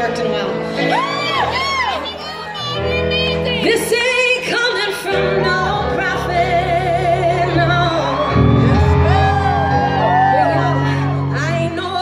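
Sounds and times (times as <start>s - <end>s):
live band playing: 0.0s - 12.0s
woman singing with vibrato: 1.8s - 12.0s.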